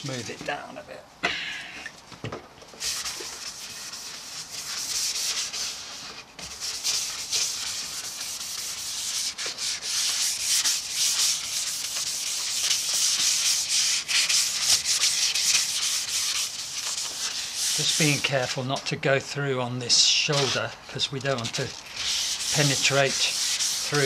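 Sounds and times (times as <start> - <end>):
hand wet-sanding: 2.8 - 18.9, 20.0 - 24.0.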